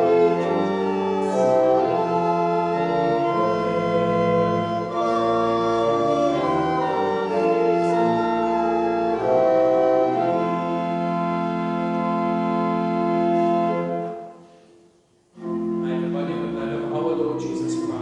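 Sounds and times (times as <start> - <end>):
organ playing sustained chords: 0.0 - 18.0.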